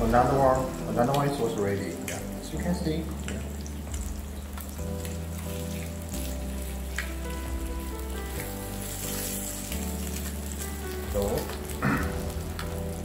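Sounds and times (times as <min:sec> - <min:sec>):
background music: 0:00.0 - 0:13.0
meat sizzling on a grill: 0:00.0 - 0:13.0.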